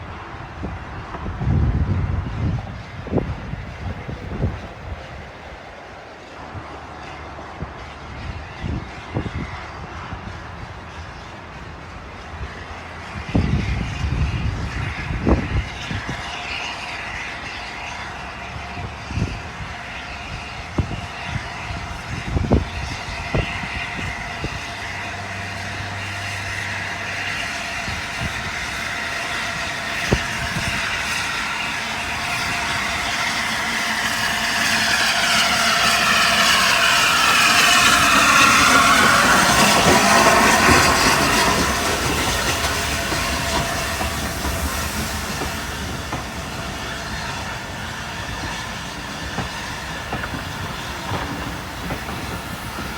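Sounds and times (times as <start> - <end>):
steam locomotive approaching: 0.0 - 52.9.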